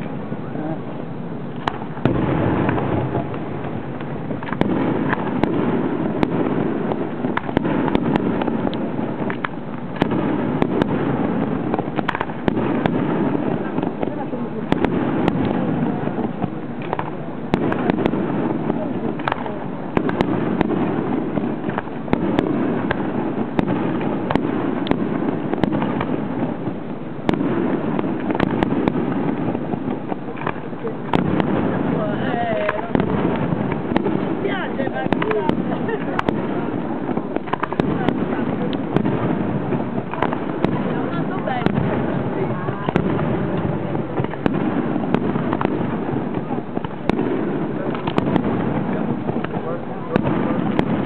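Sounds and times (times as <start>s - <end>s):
fireworks bangs and pops: 0.0s - 51.0s.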